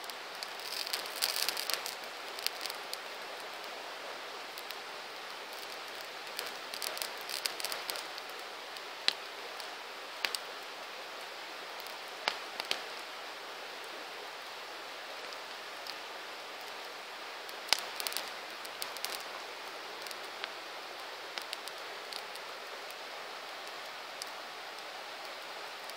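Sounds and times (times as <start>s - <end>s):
campfire hissing: 0.0s - 25.9s
fire popping and crackling: 0.1s - 13.2s, 14.8s - 25.9s.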